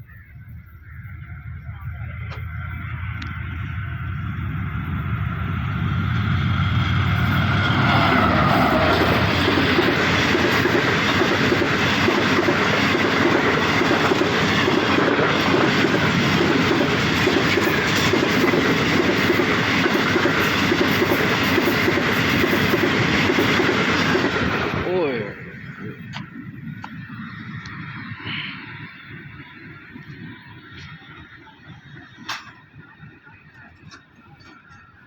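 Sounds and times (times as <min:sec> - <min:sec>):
train wheels rumbling on rails: 0:00.4 - 0:35.0.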